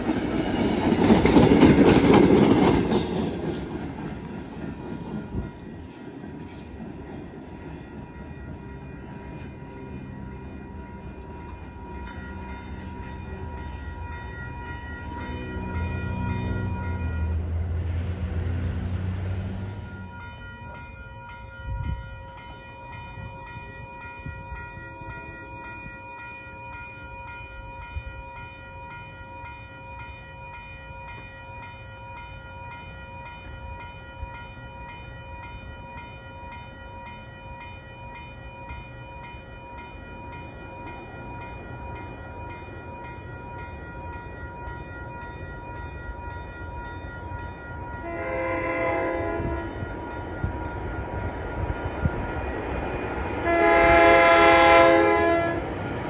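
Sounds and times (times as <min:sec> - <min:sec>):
low train rumble: 0:00.0 - 0:56.0
crossing warning bell ringing: 0:00.9 - 0:56.0
train chime horn: 0:07.4 - 0:52.6, 0:53.4 - 0:55.7.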